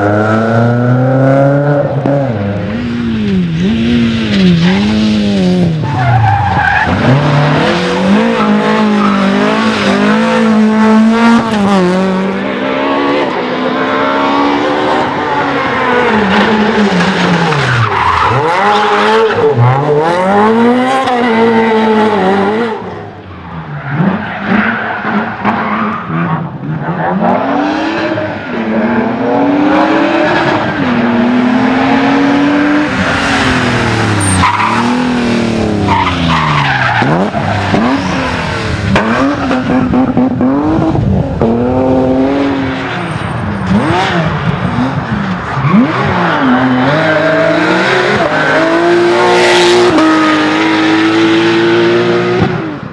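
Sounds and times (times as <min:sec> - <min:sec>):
rally car engines revving hard: 0:00.0 - 0:52.9
tyres skidding: 0:00.0 - 0:52.9.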